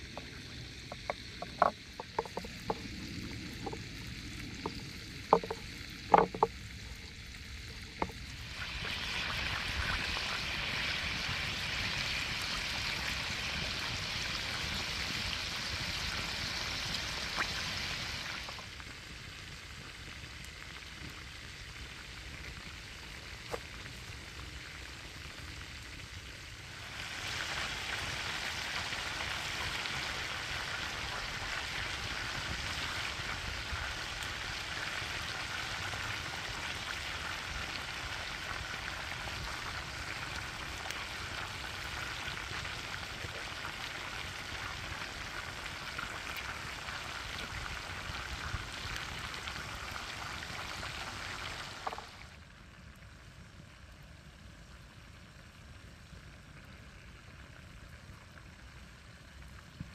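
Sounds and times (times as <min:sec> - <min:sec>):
sausage sizzling in a pan: 0:00.0 - 0:52.3.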